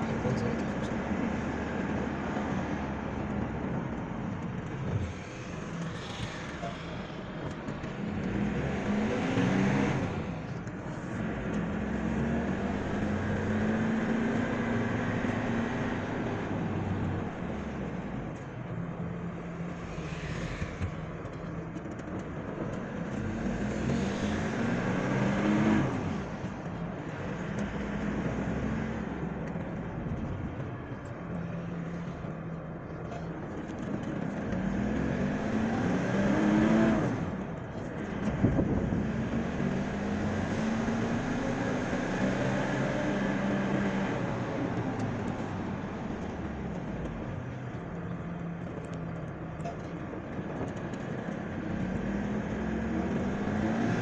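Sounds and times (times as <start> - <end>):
car engine: 0.0 - 54.0
road noise: 0.0 - 54.0.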